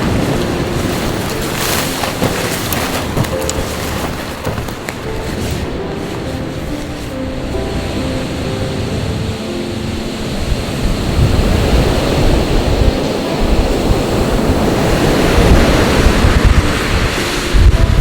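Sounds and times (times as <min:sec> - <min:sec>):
sea surf washing ashore: 0:00.0 - 0:18.0
wind buffeting microphone: 0:00.0 - 0:18.0.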